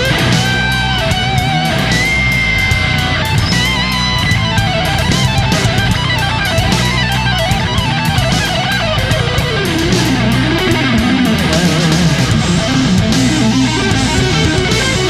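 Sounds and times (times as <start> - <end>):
guitar-led background music: 0.0 - 15.0.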